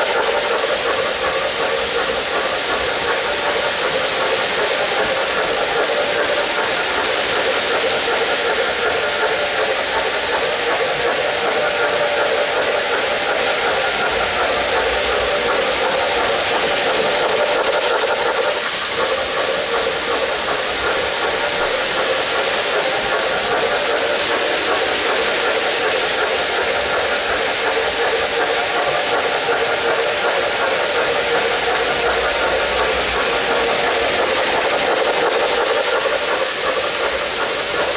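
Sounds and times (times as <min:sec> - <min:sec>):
model train wheels on metal rails: 0:00.0 - 0:37.9
steam locomotive sound effects: 0:00.0 - 0:37.9.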